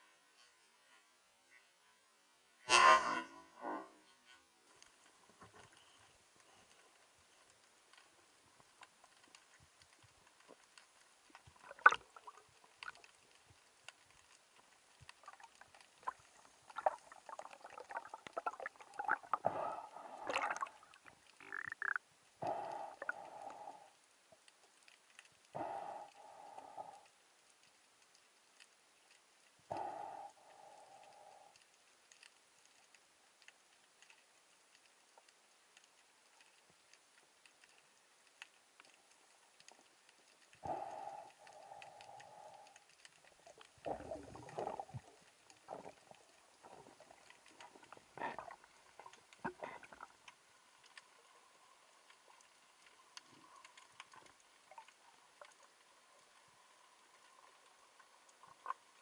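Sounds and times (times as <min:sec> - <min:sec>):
faint underwater crackle: 0:00.0 - 0:59.0.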